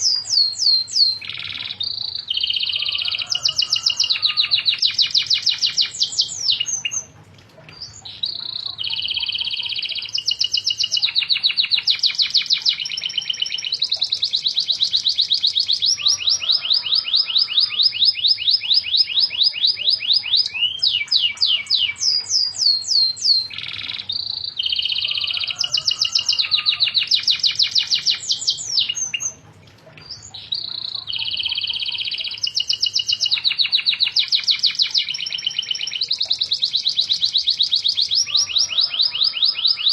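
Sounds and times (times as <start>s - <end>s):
canary singing fast trills: 0.0s - 29.4s, 30.0s - 39.9s.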